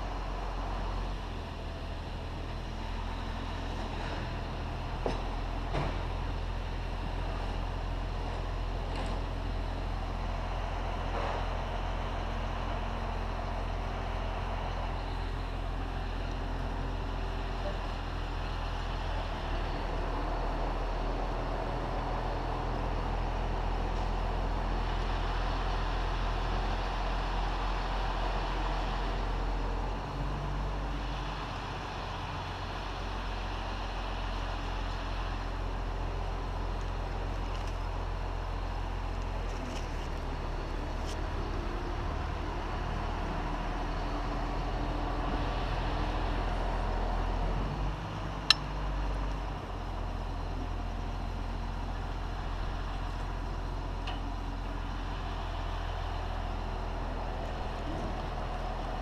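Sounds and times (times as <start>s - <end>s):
truck engine humming: 0.0s - 59.0s.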